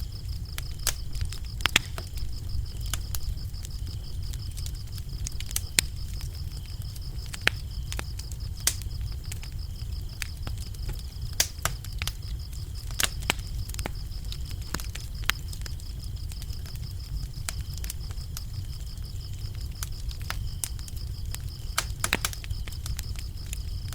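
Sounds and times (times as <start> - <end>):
crickets chirping: 0.0 - 23.9
wood fire crackling and popping: 0.0 - 23.9.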